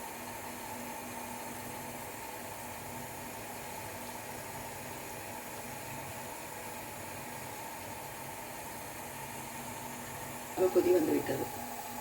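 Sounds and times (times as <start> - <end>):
pot boiling hiss: 0.0 - 12.0.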